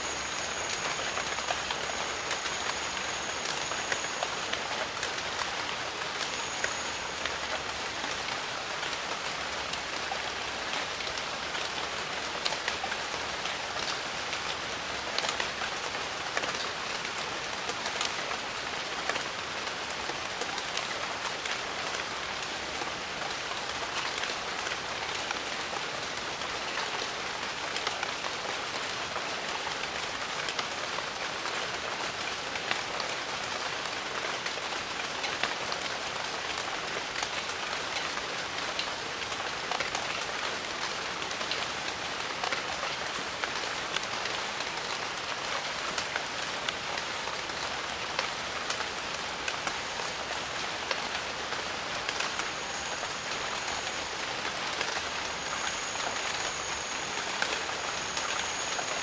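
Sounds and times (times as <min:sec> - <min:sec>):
rain falling on foliage: 0:00.0 - 0:59.0.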